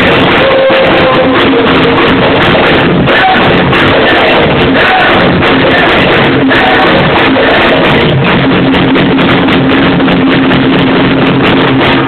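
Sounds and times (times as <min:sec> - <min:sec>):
drum band playing loudly: 0:00.0 - 0:12.0
steady pitched tones: 0:00.0 - 0:12.0.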